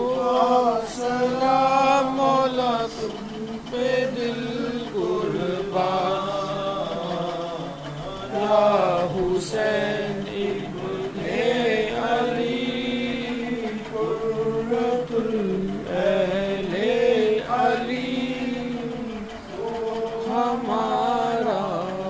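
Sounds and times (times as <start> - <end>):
man chanting devotional melody: 0.0 - 22.0.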